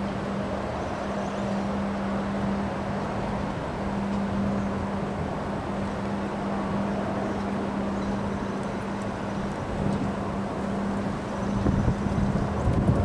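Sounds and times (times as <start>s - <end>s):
constant low hum: 0.0s - 13.0s
strong wind through trees: 0.0s - 13.0s.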